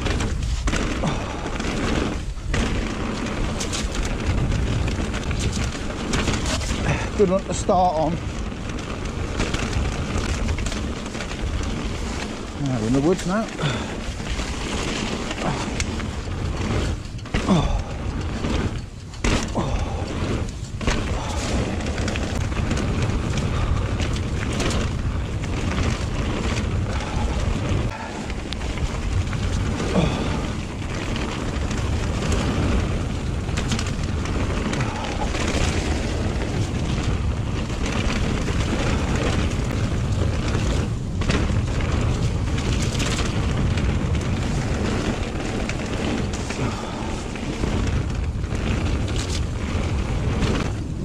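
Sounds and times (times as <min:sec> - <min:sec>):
bike knocks and rattles: 0:00.0 - 0:51.0
tyre roar on wet trail: 0:00.0 - 0:51.0
wind on microphone: 0:00.0 - 0:51.0.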